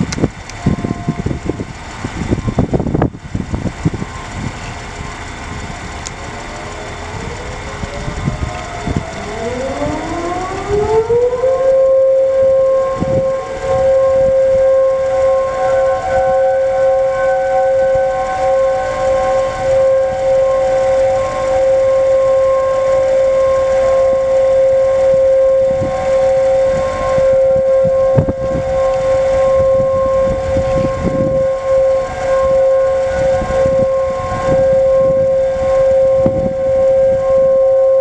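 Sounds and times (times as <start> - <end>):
distant warning sirens wailing: 0.0 - 38.0
low rumble: 0.0 - 38.0.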